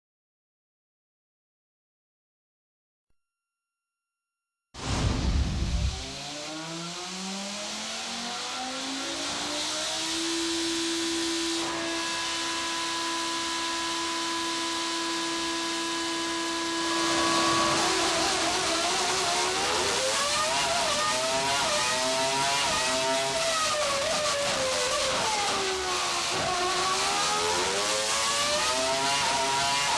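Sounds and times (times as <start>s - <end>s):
racing engine revving: 5.7s - 29.9s.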